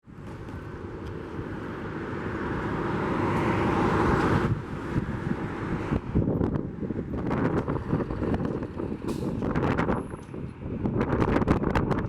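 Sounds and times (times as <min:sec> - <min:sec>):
wind buffeting microphone: 0:02.2 - 0:12.0.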